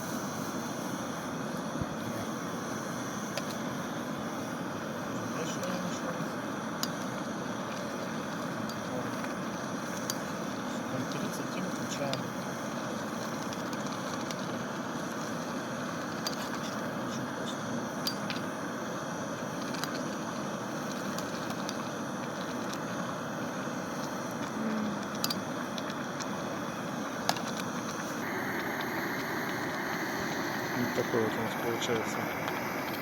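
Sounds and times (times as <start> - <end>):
campfire crackling: 0.2 - 33.0.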